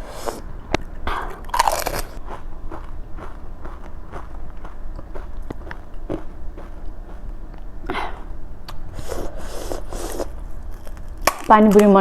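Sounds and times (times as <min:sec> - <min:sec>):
chewing crisp snacks: 0:00.2 - 0:11.5.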